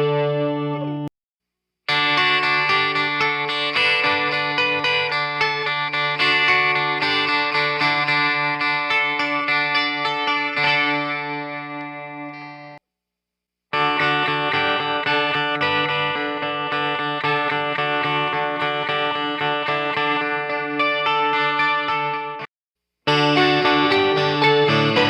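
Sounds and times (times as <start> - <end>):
electric guitar strumming chords: 0.0 - 1.1, 1.9 - 12.8, 13.8 - 22.5, 23.1 - 25.0.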